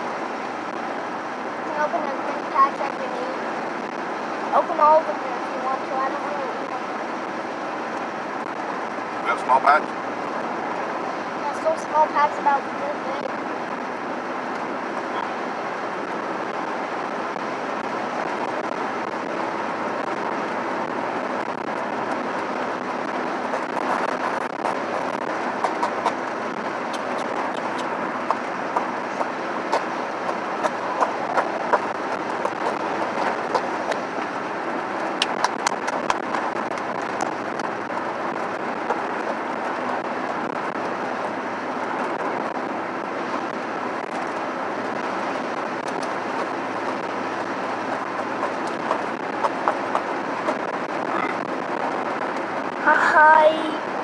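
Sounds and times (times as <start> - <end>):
road and engine noise in truck cab: 0.0 - 54.0.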